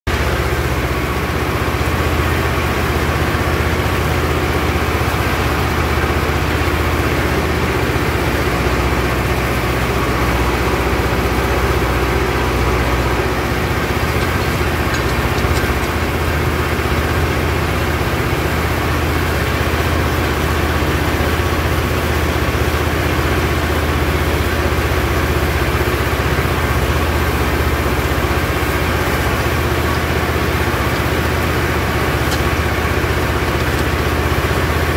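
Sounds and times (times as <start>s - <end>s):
hay tedder turning hay: 0.1s - 34.9s
tractor engine running: 0.1s - 34.9s.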